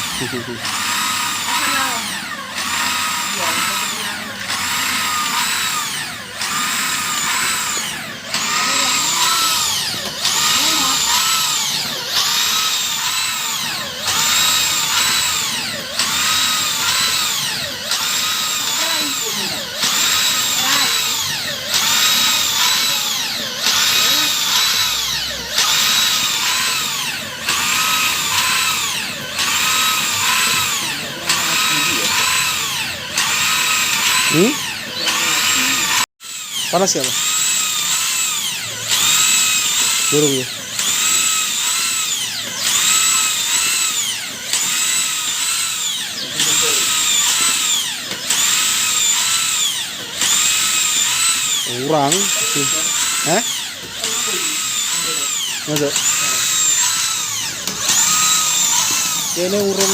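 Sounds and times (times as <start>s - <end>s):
electric drill whine: 0.0s - 59.9s.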